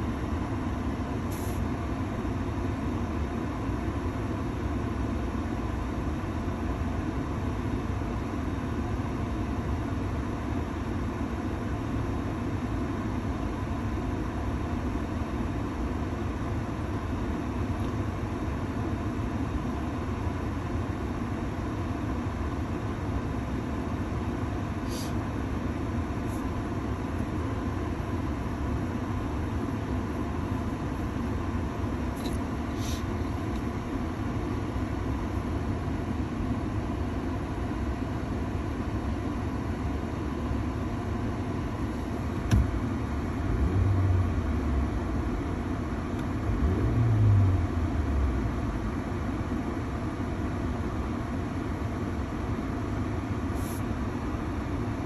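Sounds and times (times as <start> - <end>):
heater blower fan rushing air: 8.0 - 55.0.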